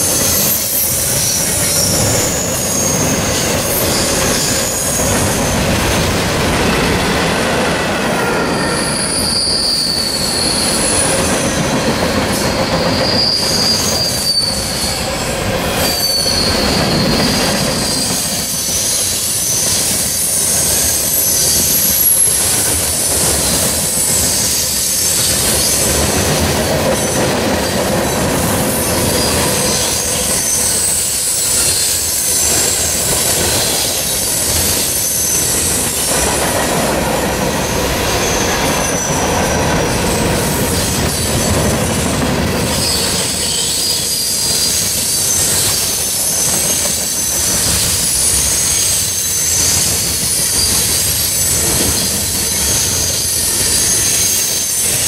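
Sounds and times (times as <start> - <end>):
high-pitched wheel squeal: 0.0 - 6.0, 8.1 - 55.0
train wheels rumbling on rail: 0.0 - 55.0.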